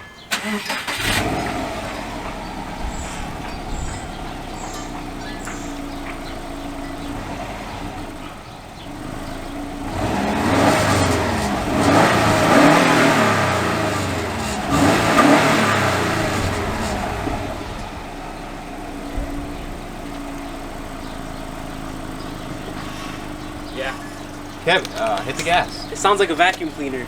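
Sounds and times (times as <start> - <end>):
car engine revving from idle: 0.3 - 27.0.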